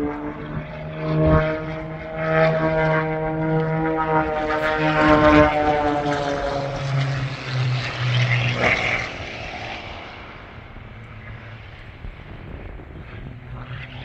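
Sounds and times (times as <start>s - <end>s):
propeller airplane flying past: 0.0s - 14.0s.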